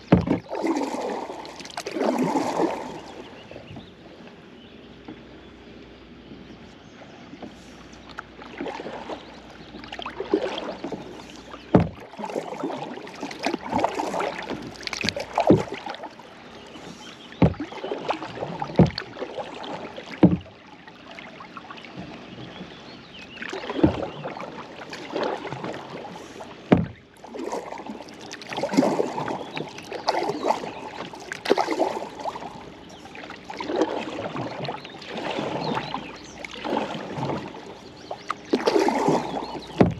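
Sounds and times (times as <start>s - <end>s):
paddle knock: 0.0s - 4.2s, 7.3s - 20.7s, 23.4s - 39.9s
paddle strokes splashing in water: 0.0s - 39.9s.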